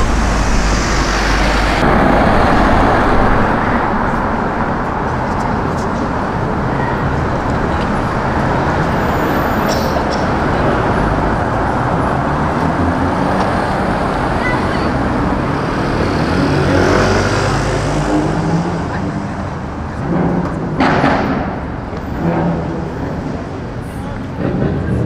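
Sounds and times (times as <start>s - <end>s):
cars and buses passing: 0.0s - 25.0s.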